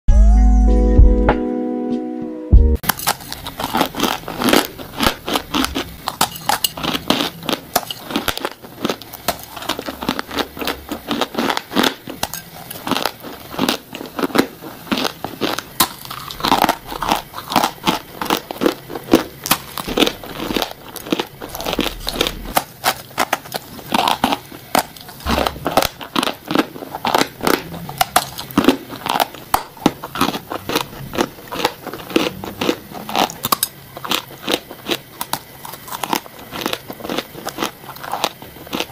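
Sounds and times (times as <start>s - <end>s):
crunchy biting and chewing: 2.8s - 38.9s.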